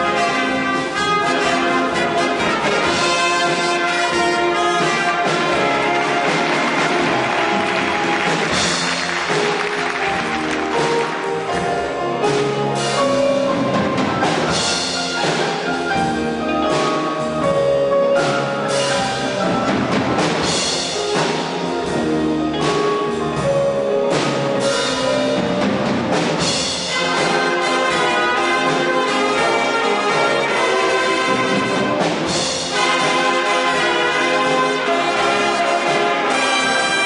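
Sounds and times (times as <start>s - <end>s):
big band playing: 0.0s - 37.0s
drum accents: 0.0s - 37.0s
piano accents: 0.0s - 37.0s.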